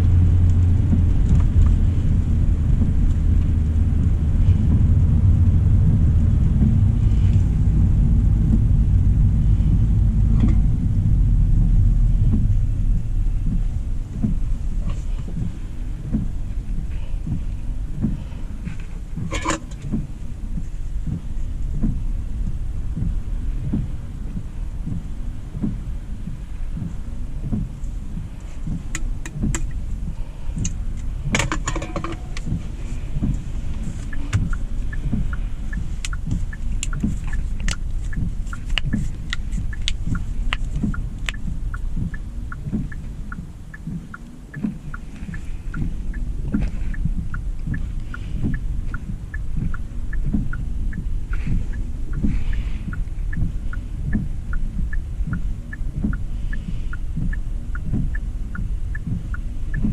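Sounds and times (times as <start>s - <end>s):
light ticks: 0.0s - 5.0s, 11.7s - 59.9s
low thumps: 0.0s - 59.9s
road rumble inside car: 0.0s - 59.9s.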